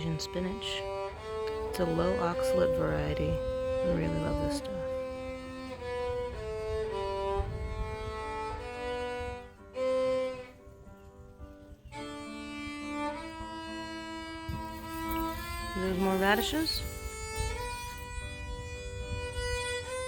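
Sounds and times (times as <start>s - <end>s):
violin slow melody: 0.0s - 20.0s.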